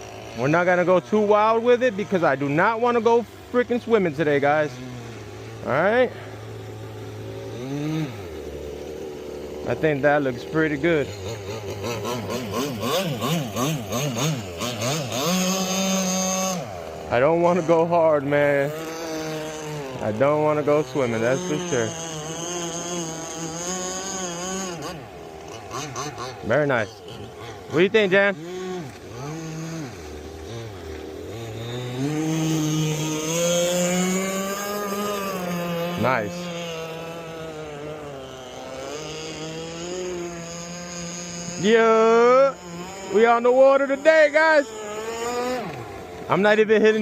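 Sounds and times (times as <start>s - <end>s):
two-stroke boat engine revving: 0.0s - 47.0s.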